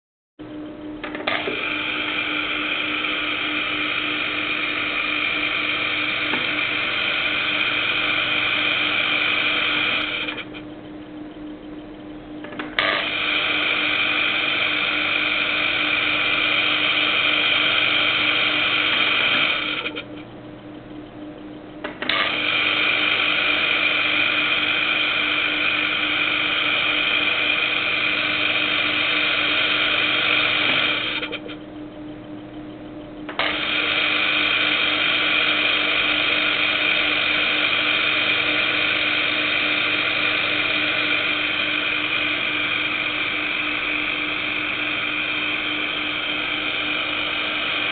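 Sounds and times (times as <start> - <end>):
compressor mechanical whir: 0.4 - 47.9
constant hum: 0.4 - 47.9.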